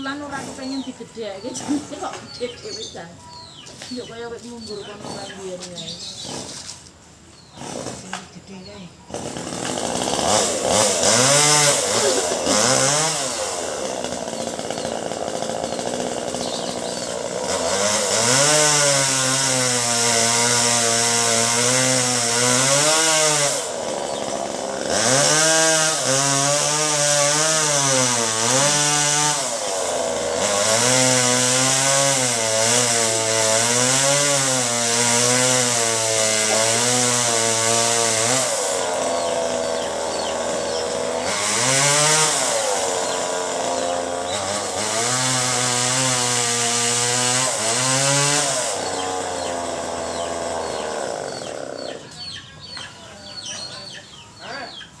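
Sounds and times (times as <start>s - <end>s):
chainsaw cutting wood: 0.0s - 53.6s.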